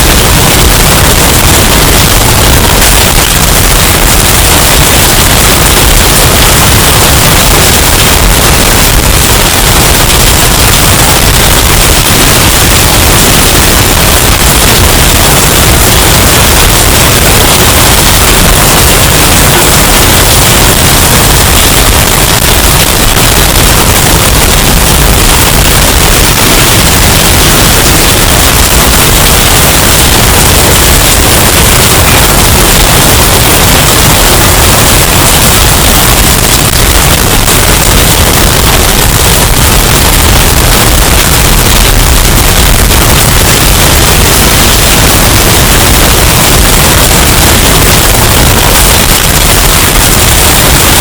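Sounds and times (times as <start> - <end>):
distorted hurricane wind and rain: 0.0 - 51.0.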